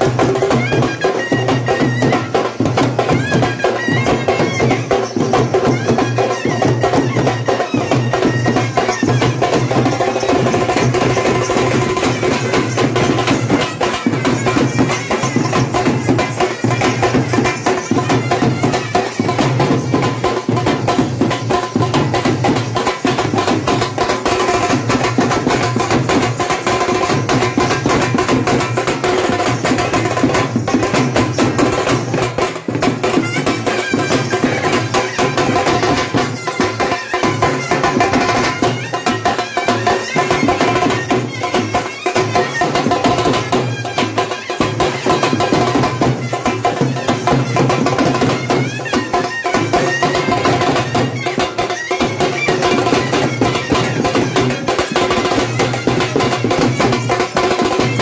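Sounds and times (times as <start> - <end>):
hand drums beating fast: 0.0 - 58.0.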